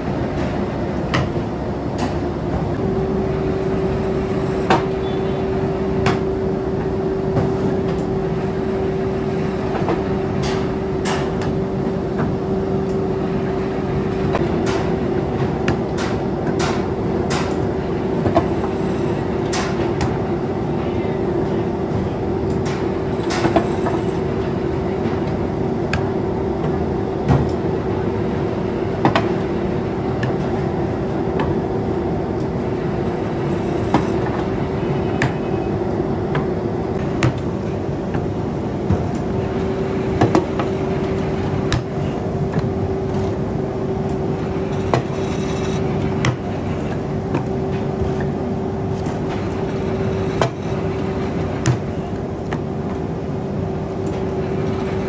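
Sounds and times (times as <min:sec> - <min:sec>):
pottery machine humming: 0:00.0 - 0:55.0.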